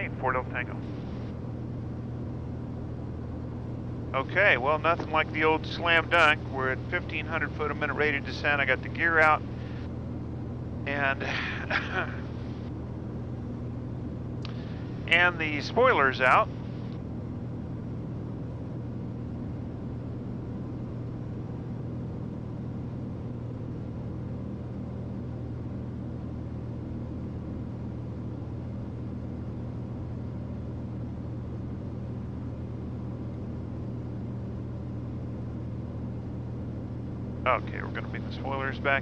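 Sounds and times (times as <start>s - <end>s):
airplane cabin engine drone: 0.0s - 39.0s.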